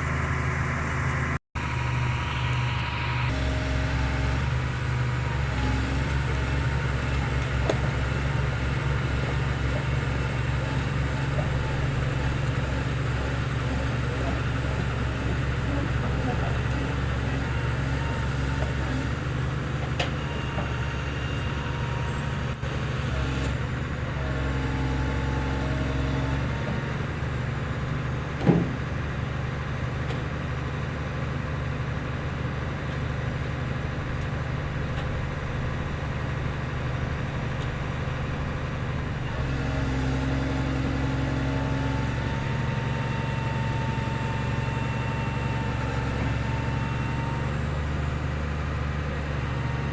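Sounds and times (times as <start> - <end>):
hydraulic whine: 0.0 - 29.3, 29.9 - 49.9
excavator diesel engine running: 0.0 - 49.9.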